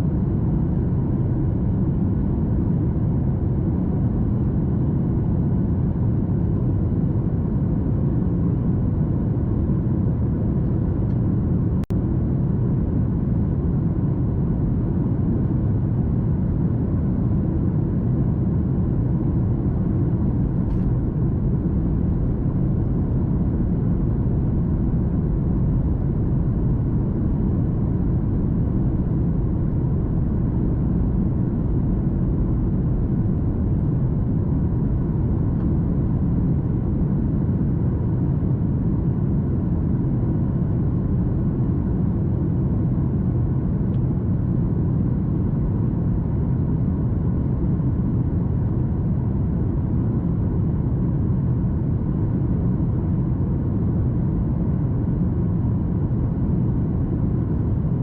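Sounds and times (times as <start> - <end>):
airliner cabin rumble: 0.0 - 58.0
faint steady hum: 0.0 - 58.0.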